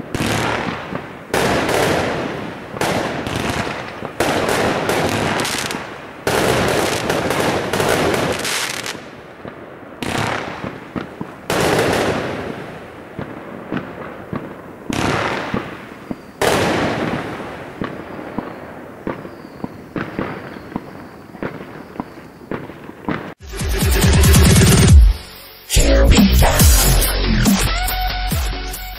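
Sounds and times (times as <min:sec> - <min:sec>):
fireworks bangs: 0:00.0 - 0:23.5
fireworks crackle: 0:00.0 - 0:23.5.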